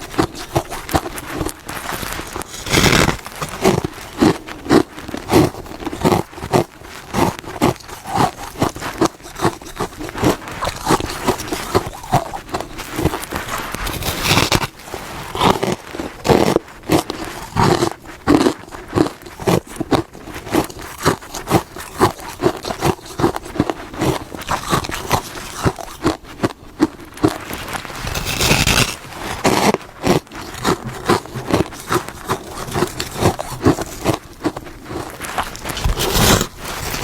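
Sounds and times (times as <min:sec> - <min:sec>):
frost being chewed: 0:00.0 - 0:37.0.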